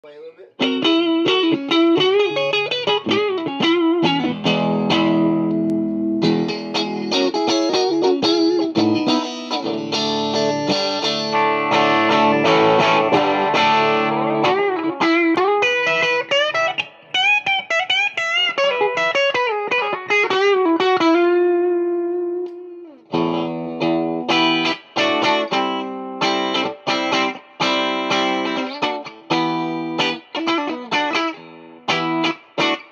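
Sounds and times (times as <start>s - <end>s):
electric guitar playing: 0.5s - 32.9s.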